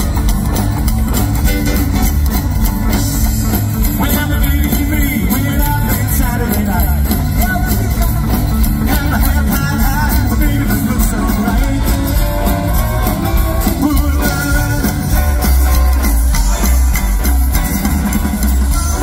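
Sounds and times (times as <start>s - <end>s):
acoustic and electric guitars: 0.0s - 19.0s
drum kit: 0.0s - 19.0s
upright bass: 0.0s - 19.0s.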